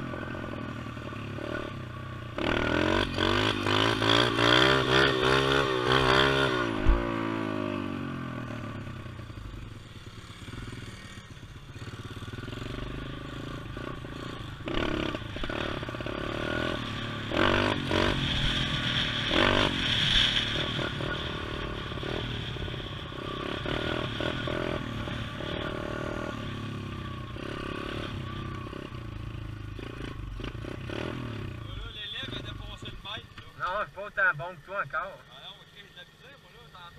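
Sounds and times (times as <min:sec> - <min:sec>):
pit bike engine revving: 0:00.0 - 0:36.9.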